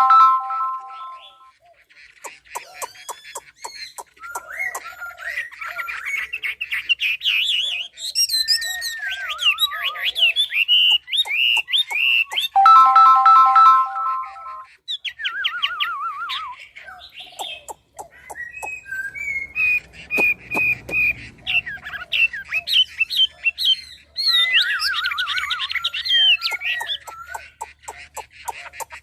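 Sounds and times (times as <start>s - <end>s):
sharp bird clicks and chips: 0.0s - 29.0s
songbird singing: 0.0s - 29.0s.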